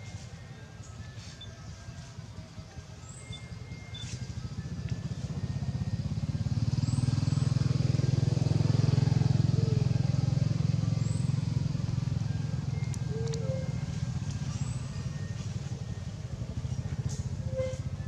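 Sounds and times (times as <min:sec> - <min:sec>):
passing vehicle engine drone: 0:02.2 - 0:18.0.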